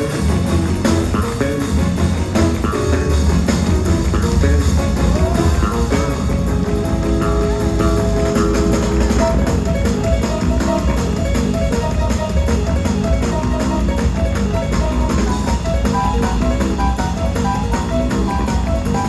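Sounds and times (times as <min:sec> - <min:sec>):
drum kit beat: 0:00.0 - 0:19.0
electric guitar: 0:00.0 - 0:19.0
gospel band playing: 0:00.0 - 0:19.0.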